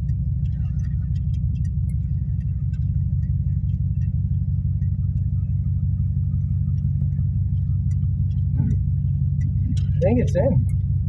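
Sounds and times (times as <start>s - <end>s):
truck engine low rumble: 0.0s - 11.0s.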